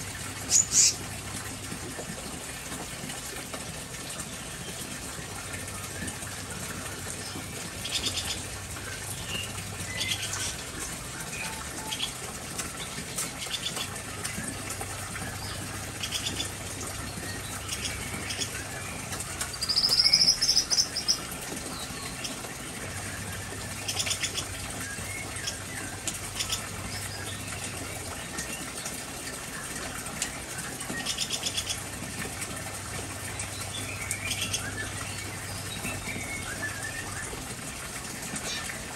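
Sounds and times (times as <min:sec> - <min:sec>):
songbirds chirping and trilling: 0:00.3 - 0:38.9.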